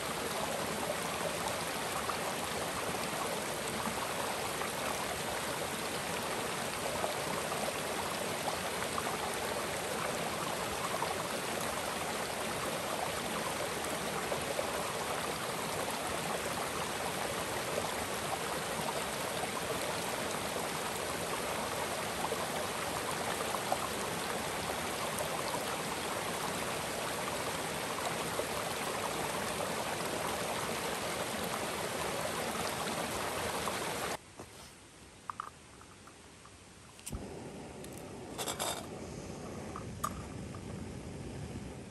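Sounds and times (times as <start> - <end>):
creek water rushing: 0.0 - 34.2.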